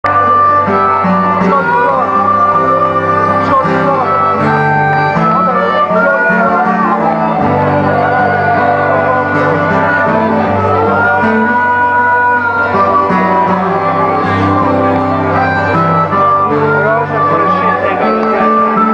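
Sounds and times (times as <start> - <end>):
bass notes: 0.0 - 18.9
strummed acoustic guitar: 0.0 - 18.9
sliding melody line: 0.1 - 18.9.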